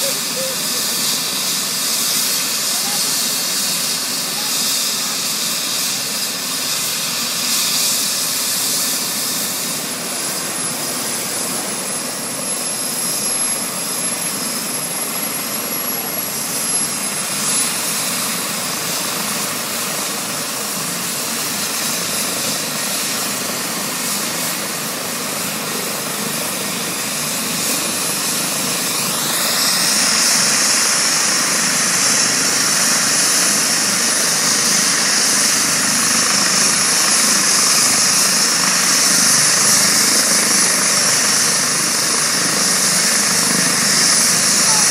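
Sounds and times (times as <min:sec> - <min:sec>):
turbine high whine: 0:00.0 - 0:44.9.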